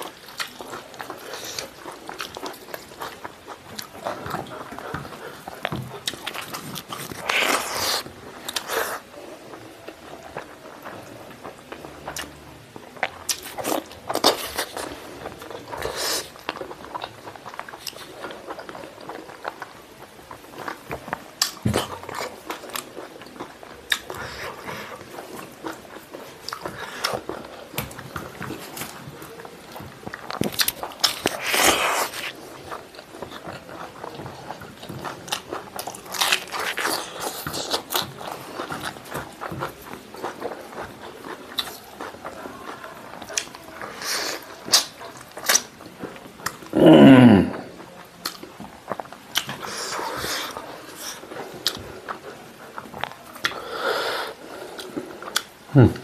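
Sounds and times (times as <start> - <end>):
person chewing with mouth smacks: 0.0 - 56.0.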